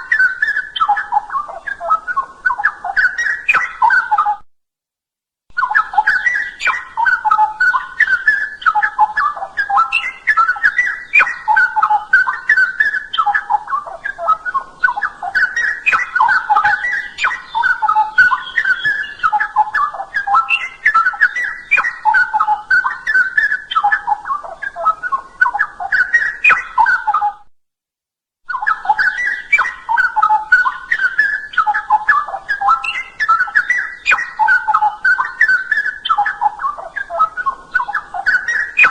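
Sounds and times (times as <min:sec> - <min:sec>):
bird warbling song: 0:00.0 - 0:04.4, 0:05.5 - 0:27.4, 0:28.5 - 0:38.9.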